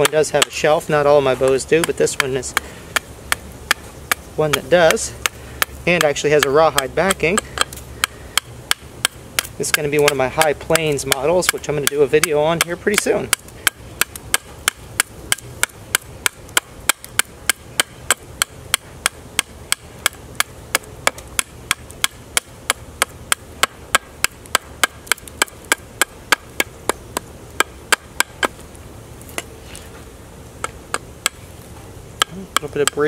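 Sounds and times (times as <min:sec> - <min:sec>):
knife chopping wood: 0:00.0 - 0:00.6, 0:01.4 - 0:28.6, 0:32.2 - 0:33.0.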